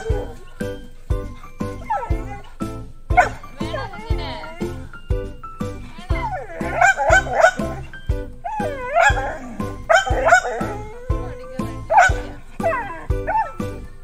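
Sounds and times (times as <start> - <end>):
dog whining and yipping: 0.0 - 4.9, 5.9 - 14.0
background music with steady beat: 0.0 - 14.0.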